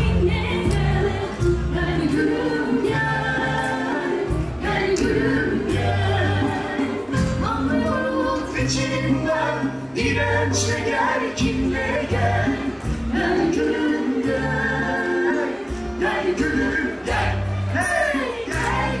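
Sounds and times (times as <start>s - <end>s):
several voices singing: 0.0s - 19.0s.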